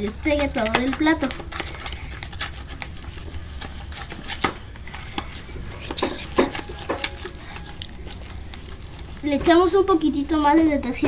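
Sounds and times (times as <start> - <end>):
spoon stirring slime on a plate: 0.0 - 10.8.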